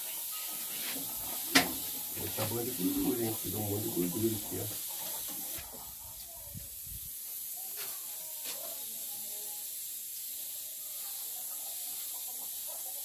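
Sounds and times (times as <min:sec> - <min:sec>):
pork sizzling in a pan: 0:00.0 - 0:13.0.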